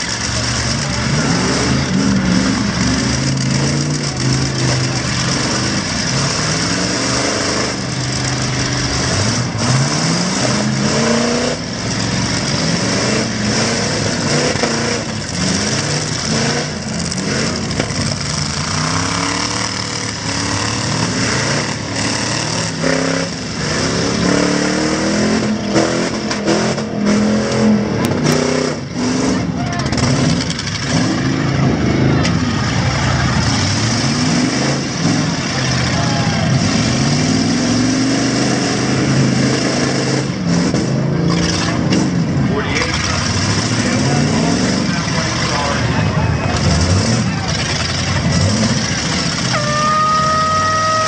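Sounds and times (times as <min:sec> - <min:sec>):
truck engines revving hard: 0:00.0 - 0:51.0.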